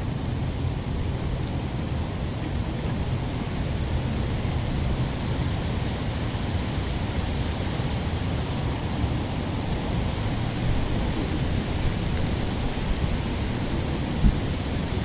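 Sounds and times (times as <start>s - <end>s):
park ambience rumble and hiss: 0.0s - 15.0s.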